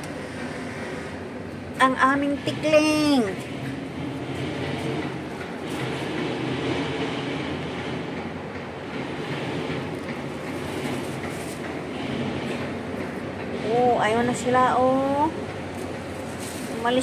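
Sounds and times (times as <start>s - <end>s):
steady rumbling noise: 0.0s - 17.0s.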